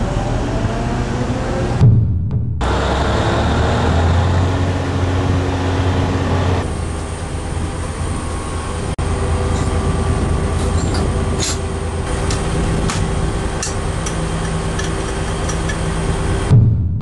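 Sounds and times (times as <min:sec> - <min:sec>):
diesel locomotive engine drone: 0:00.0 - 0:01.9, 0:02.6 - 0:17.0.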